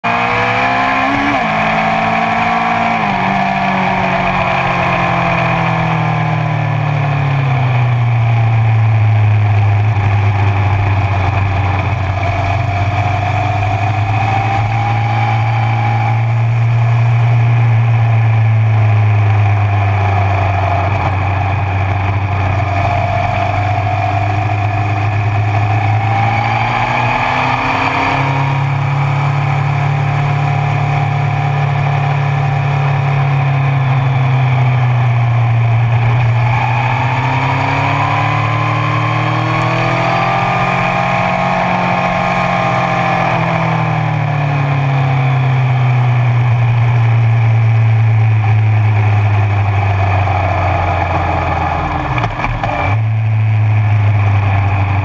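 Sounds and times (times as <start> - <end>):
motorcycle engine at speed: 0.0 - 55.0
wind and road noise: 0.0 - 55.0.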